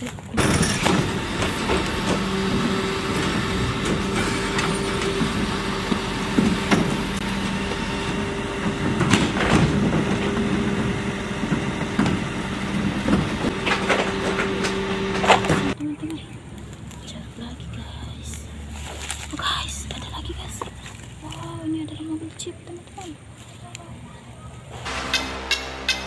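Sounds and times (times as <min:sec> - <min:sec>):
garbage truck engine and hydraulics: 0:00.0 - 0:17.2, 0:18.2 - 0:26.0.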